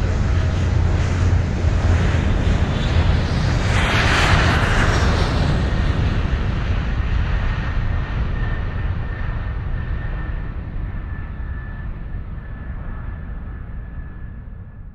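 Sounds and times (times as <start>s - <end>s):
jet airliner engine rumble: 0.0s - 14.9s.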